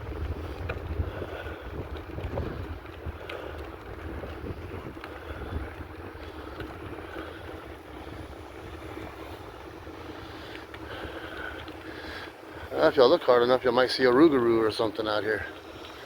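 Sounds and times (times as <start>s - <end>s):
bicycle wheels whirring: 0.0s - 16.0s
wind buffeting microphone: 0.0s - 16.0s.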